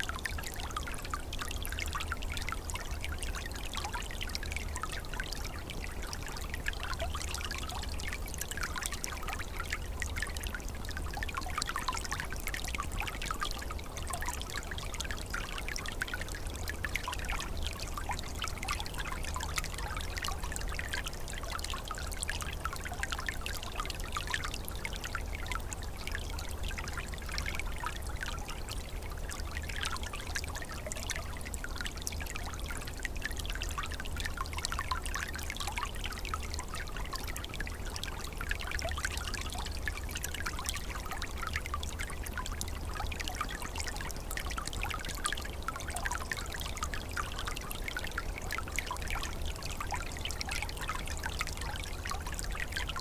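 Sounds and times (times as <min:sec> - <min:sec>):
stream babbling over stones: 0:00.0 - 0:53.0.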